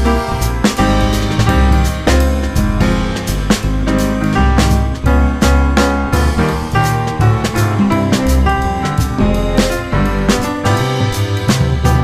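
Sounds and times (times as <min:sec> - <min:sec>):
piano instrumental over beat: 0:00.0 - 0:12.0.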